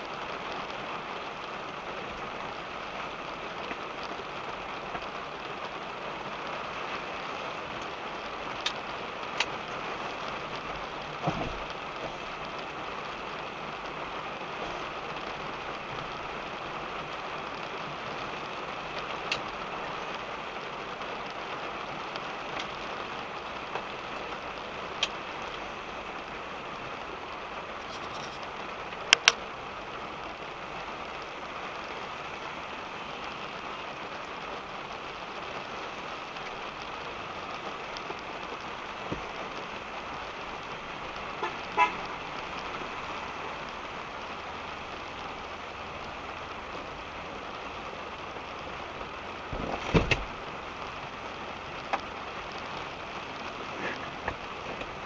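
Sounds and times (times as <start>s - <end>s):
rain on a car: 0.0s - 55.0s.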